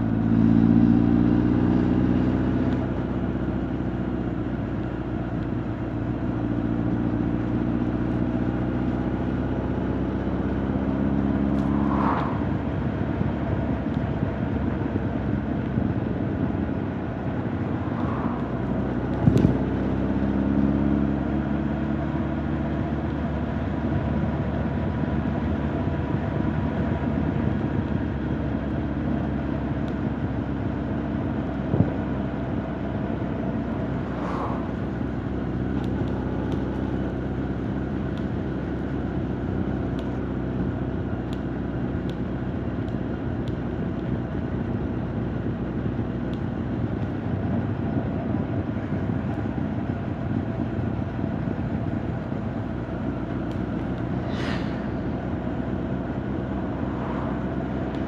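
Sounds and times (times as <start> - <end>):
motorcycle engine cruising: 6.0 - 58.0.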